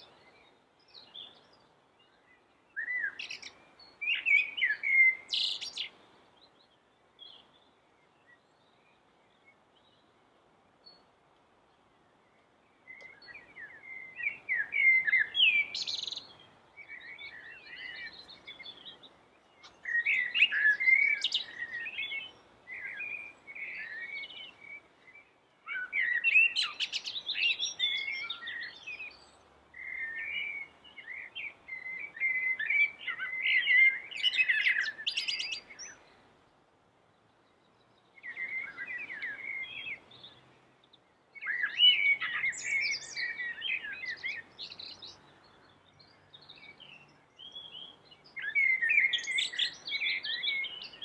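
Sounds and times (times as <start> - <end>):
blackbird singing: 0.0 - 10.1, 12.8 - 36.2, 37.4 - 51.0.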